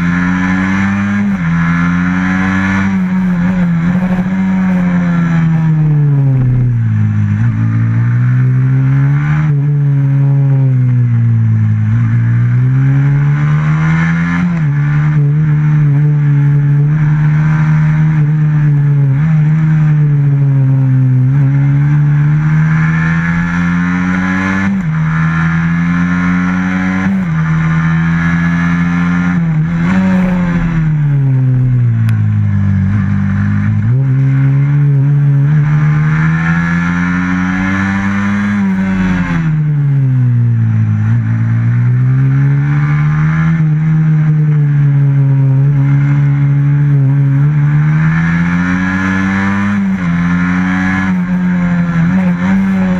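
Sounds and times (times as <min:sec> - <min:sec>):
racing motorcycle engine: 0:00.0 - 0:52.9.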